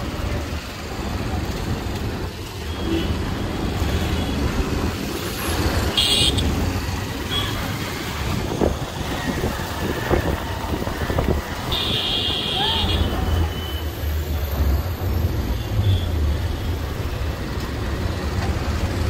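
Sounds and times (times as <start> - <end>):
traffic and road noise: 0.0 - 19.0.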